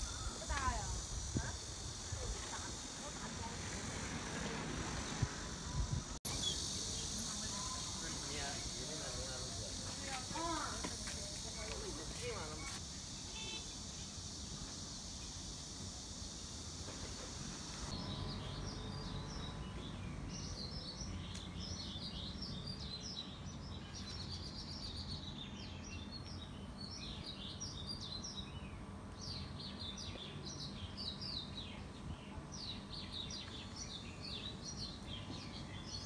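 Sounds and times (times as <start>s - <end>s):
birds chirping: 0.0s - 13.7s, 17.0s - 36.0s.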